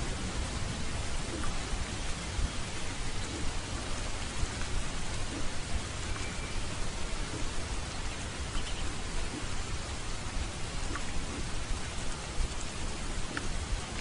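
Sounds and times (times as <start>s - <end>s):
steady rain-like hiss: 0.0s - 14.0s.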